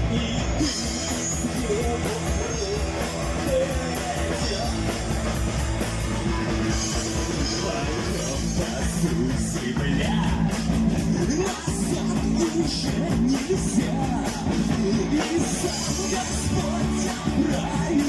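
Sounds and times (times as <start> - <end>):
instrumental rock music: 0.0 - 18.0.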